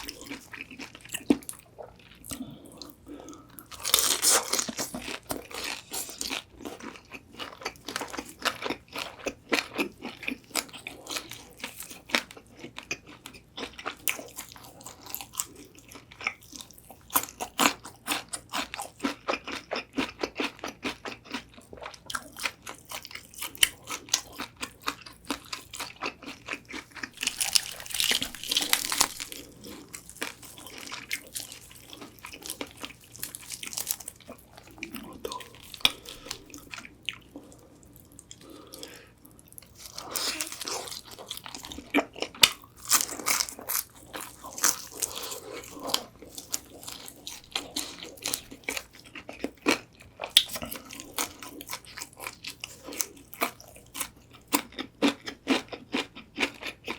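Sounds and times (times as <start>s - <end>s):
chewing: 0.0s - 56.9s
crunching fried chicken: 0.0s - 56.9s.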